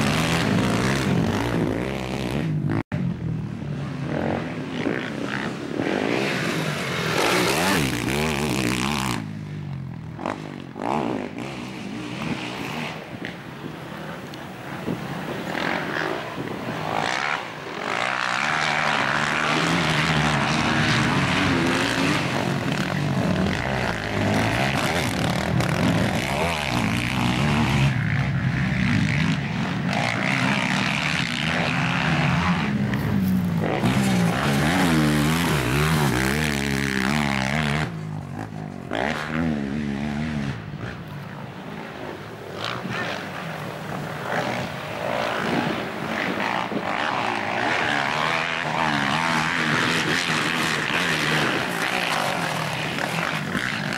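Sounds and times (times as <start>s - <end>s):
quad bike engines revving: 0.0s - 53.9s.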